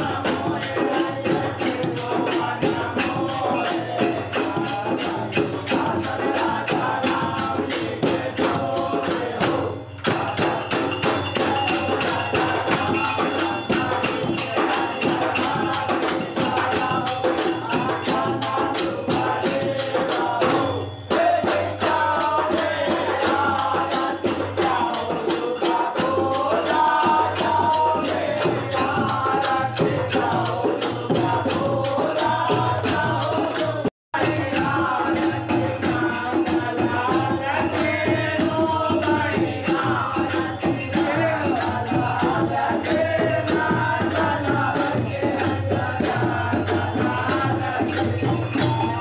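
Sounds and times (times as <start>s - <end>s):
hand-played barrel drums: 0.0s - 49.0s
jingling percussion: 0.0s - 49.0s
men singing devotional song: 0.0s - 49.0s.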